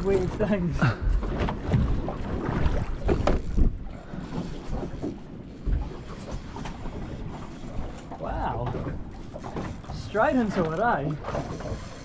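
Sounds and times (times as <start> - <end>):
water and boat hull noise: 0.0 - 12.0.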